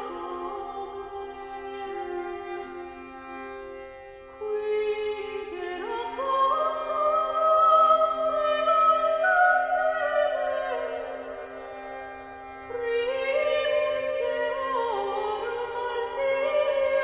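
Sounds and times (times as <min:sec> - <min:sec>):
slow music with long held notes: 0:00.0 - 0:17.0.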